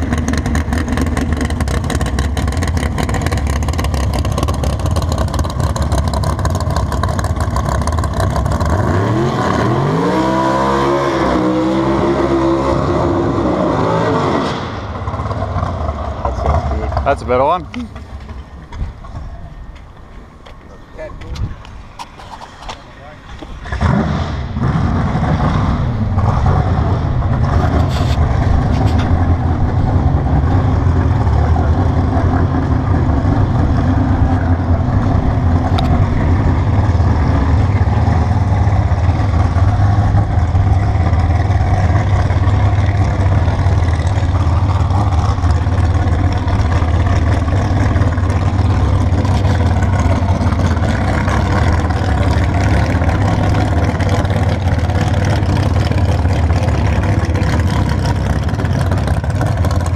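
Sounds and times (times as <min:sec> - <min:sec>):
car engine low rumble: 0:00.0 - 0:59.9.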